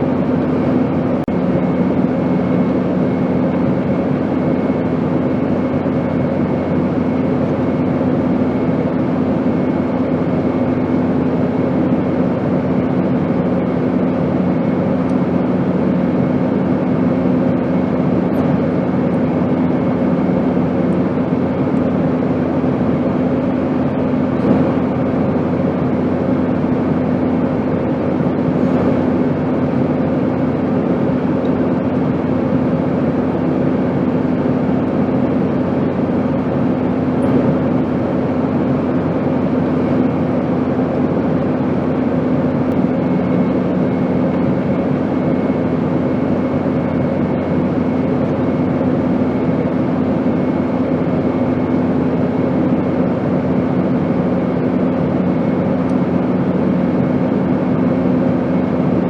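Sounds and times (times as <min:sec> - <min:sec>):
airplane cabin drone: 0:00.0 - 0:59.0.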